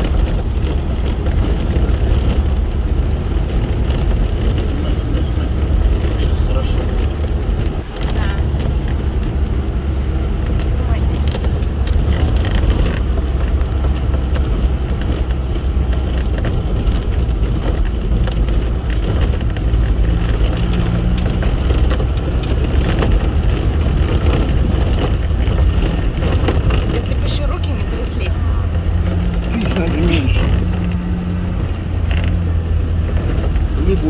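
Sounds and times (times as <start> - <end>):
small rattles and knocks: 0.0 - 9.6, 10.3 - 34.0
engine and road rumble: 0.0 - 34.0.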